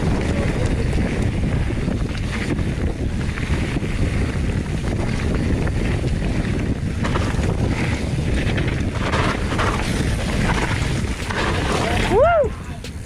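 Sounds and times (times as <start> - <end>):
bike tyre and trail noise: 0.0 - 13.0
wind buffeting microphone: 0.0 - 13.0.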